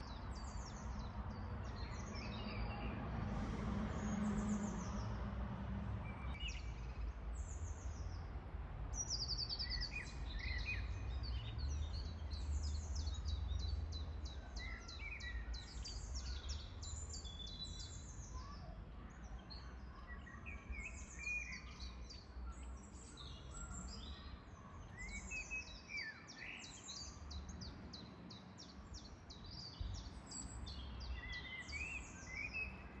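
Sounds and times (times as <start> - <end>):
songbirds singing and chirping: 0.0 - 5.3, 6.0 - 33.0.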